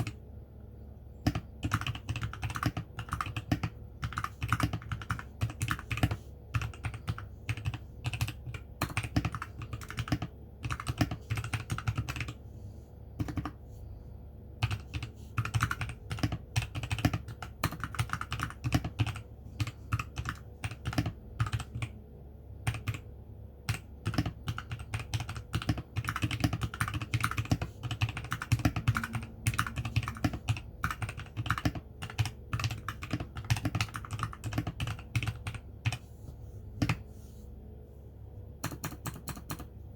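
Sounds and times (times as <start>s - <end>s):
typing on mechanical keyboard: 0.0s - 0.2s, 1.2s - 12.4s, 13.1s - 13.6s, 14.6s - 22.0s, 22.6s - 36.0s, 36.8s - 37.0s, 38.6s - 39.7s.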